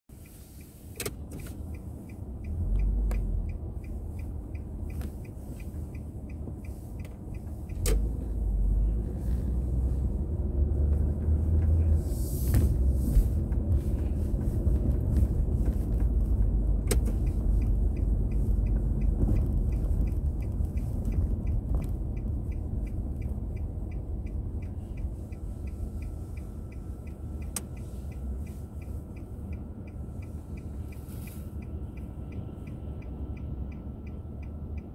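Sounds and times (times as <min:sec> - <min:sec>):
car engine and road rumble: 0:00.1 - 0:34.9
even ticking: 0:00.6 - 0:11.9, 0:14.9 - 0:34.9.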